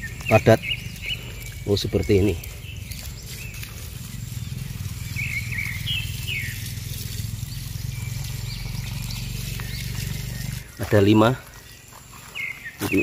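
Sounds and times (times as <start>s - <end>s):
bird chirps: 0.0s - 13.0s
water from hose running onto soil: 0.0s - 13.0s.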